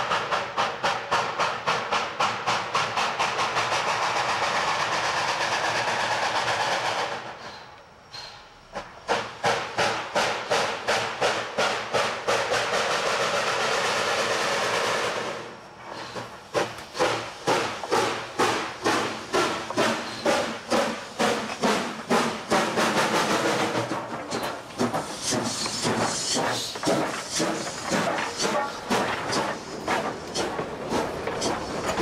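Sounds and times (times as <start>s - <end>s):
steam hiss: 0.0s - 32.0s
steam locomotive chuffing: 0.0s - 32.0s.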